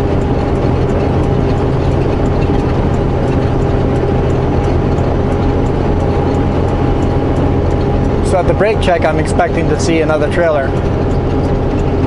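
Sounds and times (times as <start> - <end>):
diesel truck engine droning: 0.0 - 12.0
faint regular ticking: 0.0 - 12.0.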